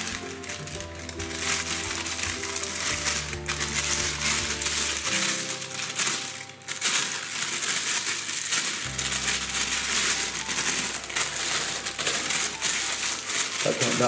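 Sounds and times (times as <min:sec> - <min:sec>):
background music with low notes: 0:00.0 - 0:14.0
plastic bag crinkling: 0:00.0 - 0:14.0.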